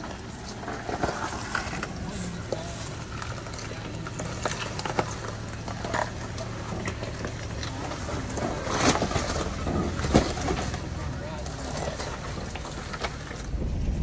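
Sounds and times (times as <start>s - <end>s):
stones knocking under tyres: 0.0s - 13.6s
tyres crunching on rocks: 0.0s - 13.7s
car engine humming: 0.0s - 14.0s.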